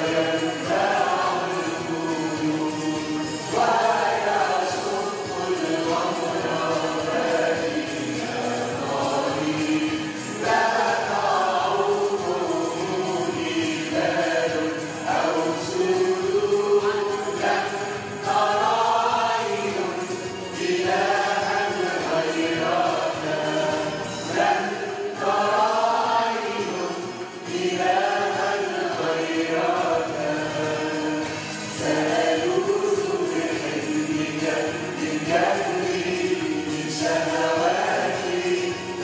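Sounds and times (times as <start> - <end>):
group singing a hymn: 0.0 - 39.0.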